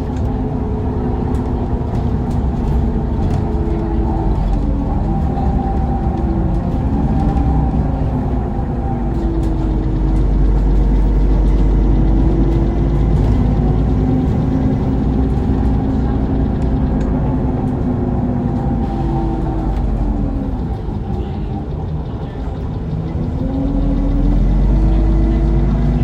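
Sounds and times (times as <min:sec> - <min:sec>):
bus engine rumble: 0:00.0 - 0:26.0
drivetrain whine: 0:00.0 - 0:26.0.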